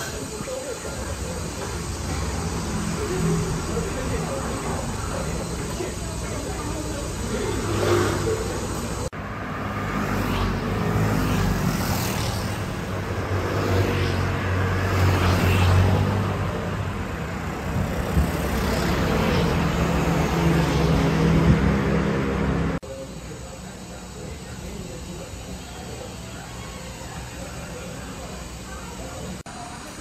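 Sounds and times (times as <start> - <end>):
scooters and cars passing: 0.0 - 30.0.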